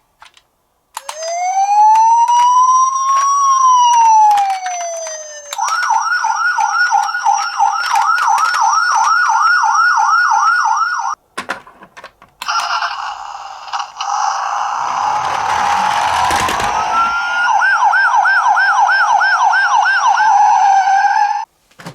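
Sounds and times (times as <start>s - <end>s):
toy electronic siren: 1.0s - 11.2s, 12.5s - 21.5s.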